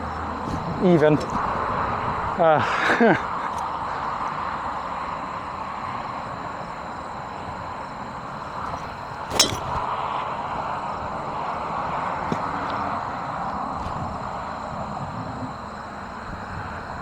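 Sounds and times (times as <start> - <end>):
steady outdoor noise: 0.0 - 17.0.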